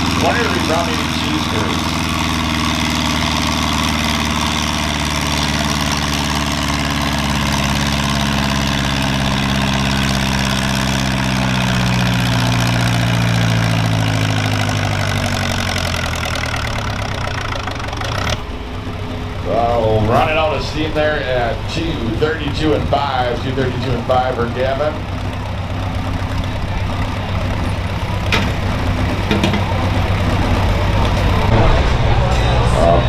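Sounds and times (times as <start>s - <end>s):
tractor engine working under load: 0.0s - 33.0s.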